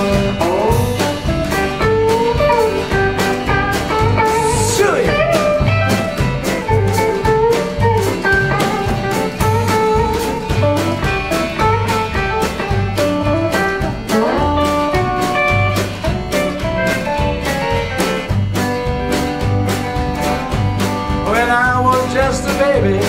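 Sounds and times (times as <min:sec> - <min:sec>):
picked electric guitar lead: 0:00.0 - 0:23.0
pulsing bass line: 0:00.0 - 0:23.0
strummed rhythm guitar: 0:00.0 - 0:23.0.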